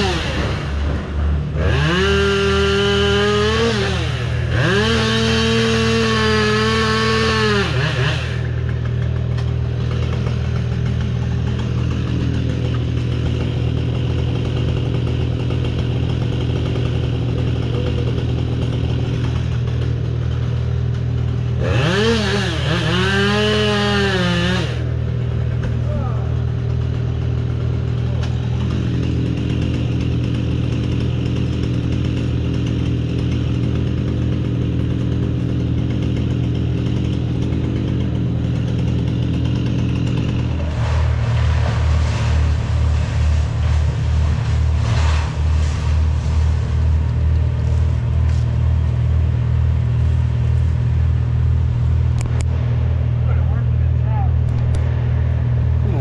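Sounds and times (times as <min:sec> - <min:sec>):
chainsaw revving: 0:00.0 - 0:56.0
engine droning: 0:00.0 - 0:56.0.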